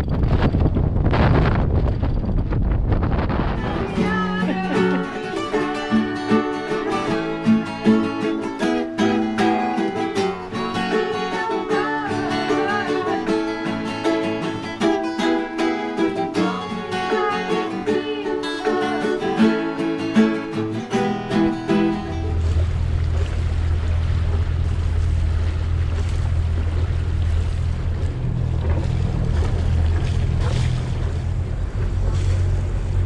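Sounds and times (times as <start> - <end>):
acoustic plucked string music: 3.4 - 33.0.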